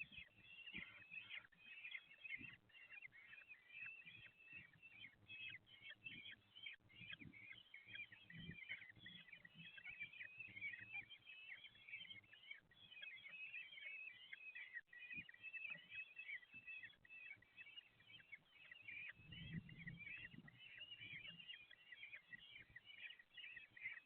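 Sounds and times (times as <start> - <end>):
bird chicks begging calls: 0.0 - 24.0.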